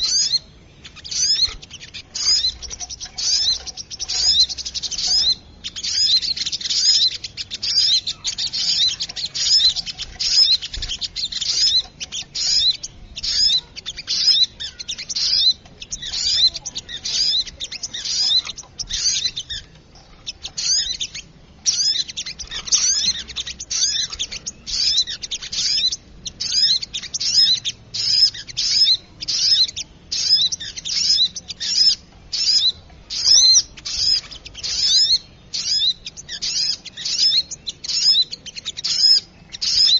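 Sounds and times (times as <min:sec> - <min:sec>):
rapid high-pitched bird chirping: 0:00.0 - 0:39.9.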